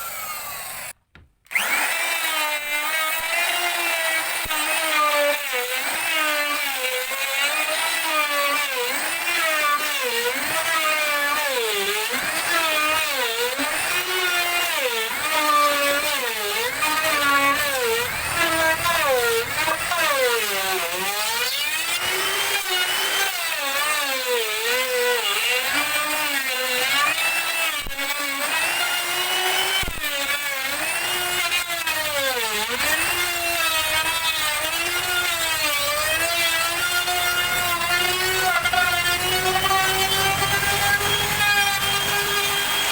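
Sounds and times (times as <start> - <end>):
power tool cutting wood: 0.0 - 42.9.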